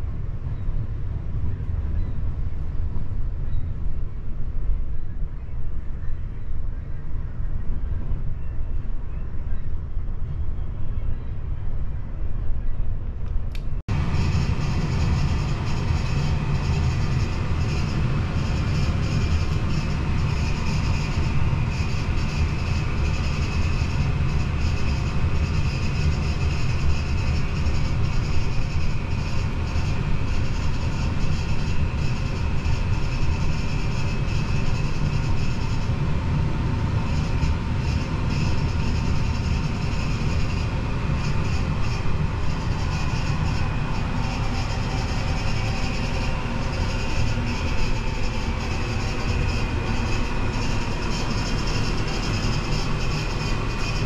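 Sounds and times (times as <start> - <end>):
faint high whine: 0.0 - 54.0
low mechanical rumble: 0.0 - 54.0.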